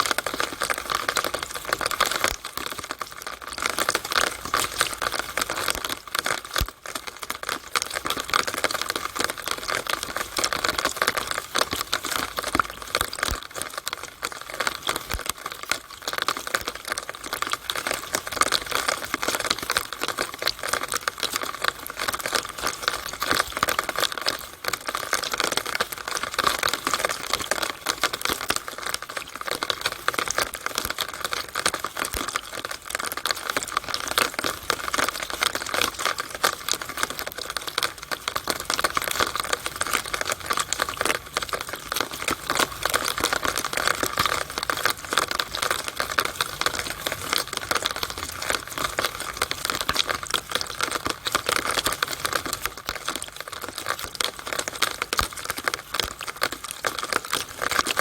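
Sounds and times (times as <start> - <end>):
rainwater splashing from downspout: 0.0 - 58.0.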